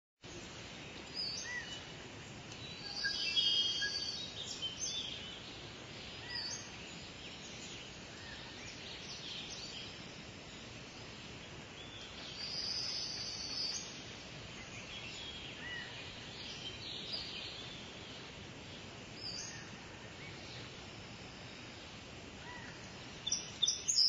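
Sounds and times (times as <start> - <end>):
steady background hiss: 0.2 - 24.0
birds chirping and singing: 0.8 - 20.9, 22.4 - 24.0.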